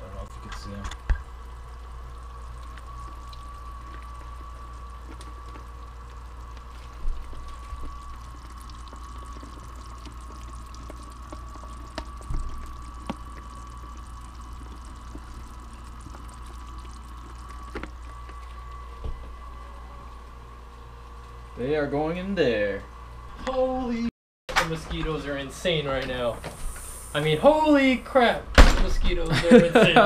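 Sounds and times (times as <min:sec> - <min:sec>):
steady hum with high whine: 0:00.0 - 0:30.0.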